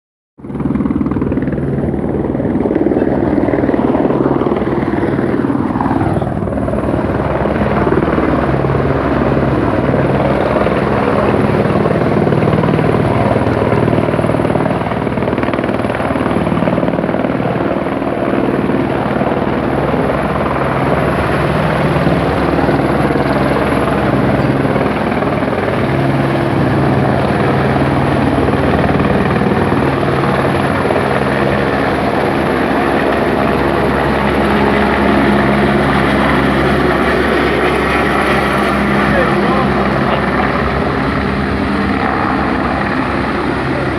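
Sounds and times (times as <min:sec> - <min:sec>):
helicopter rotor beating: 0:00.4 - 0:43.9.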